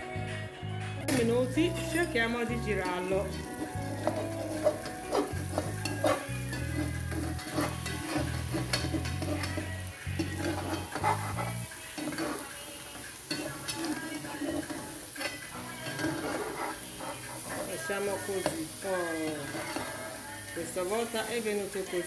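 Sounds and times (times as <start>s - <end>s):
frittata sizzling in oil: 1.1s - 22.0s
spatula scraping pan: 1.3s - 22.0s.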